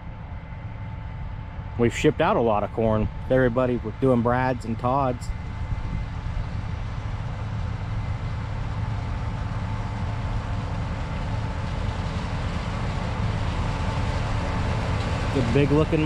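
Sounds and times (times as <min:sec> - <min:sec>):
farm machinery engine rumble: 0:00.0 - 0:16.0.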